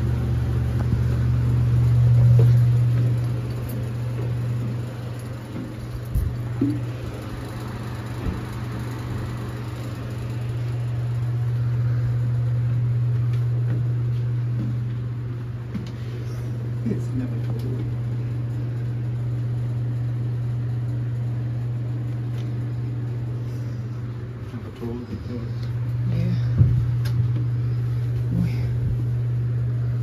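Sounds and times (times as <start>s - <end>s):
low machinery hum: 0.0s - 30.0s.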